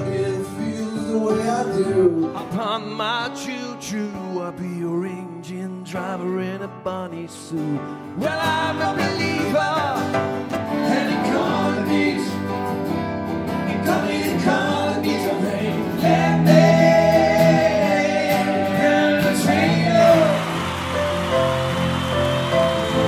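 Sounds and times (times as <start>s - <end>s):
person singing: 0.0s - 12.7s, 13.5s - 23.0s
acoustic guitars: 0.0s - 23.0s
keyboard: 0.0s - 23.0s.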